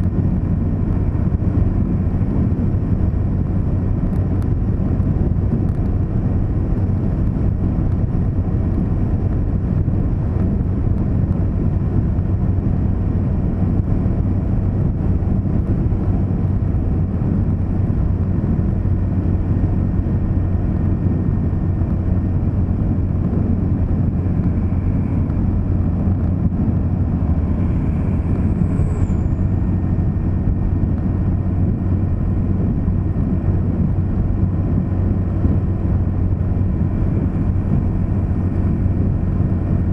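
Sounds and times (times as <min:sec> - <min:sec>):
tyre noise on road: 0:00.0 - 0:39.9
vehicle engine rumble: 0:00.0 - 0:39.9.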